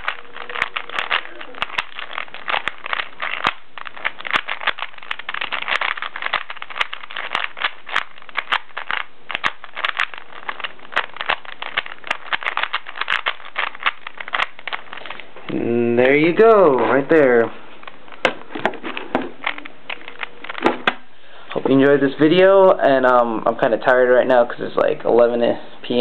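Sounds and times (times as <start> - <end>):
puzzle cube clicking and rattling: 0.0 - 21.0.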